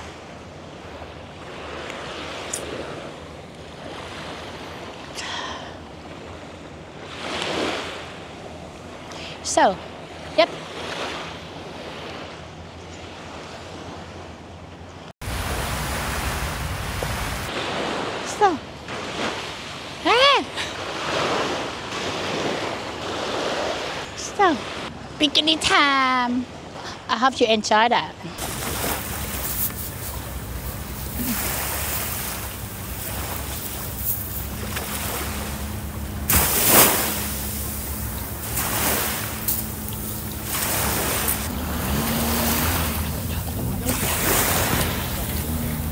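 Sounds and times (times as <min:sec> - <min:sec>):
surf washing ashore: 0:00.0 - 0:14.4, 0:15.2 - 0:25.2, 0:28.3 - 0:45.9.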